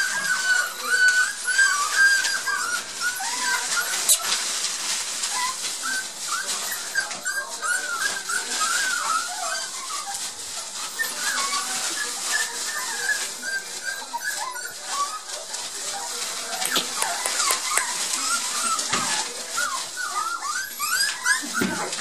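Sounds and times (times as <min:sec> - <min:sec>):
puppies whining and squealing: 0:00.0 - 0:22.0.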